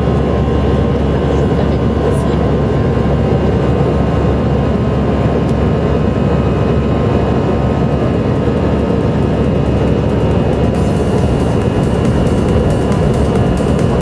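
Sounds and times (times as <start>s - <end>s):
jet engine and airflow rush: 0.0s - 14.0s.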